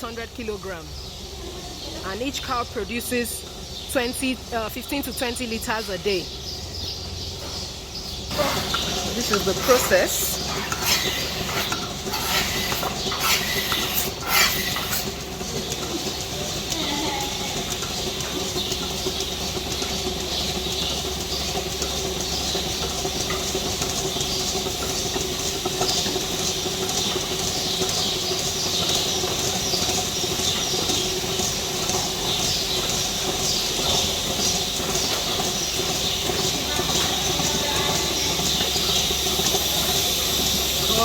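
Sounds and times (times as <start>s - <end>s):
milking machine running: 0.0s - 41.0s.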